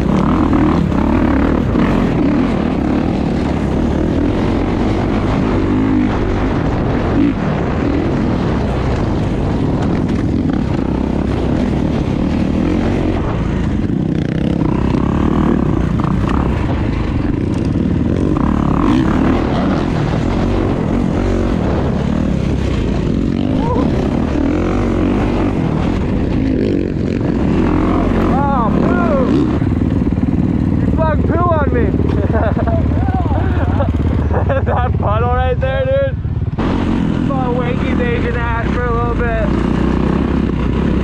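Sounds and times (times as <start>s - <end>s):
dirt bike engine running: 0.0s - 41.0s.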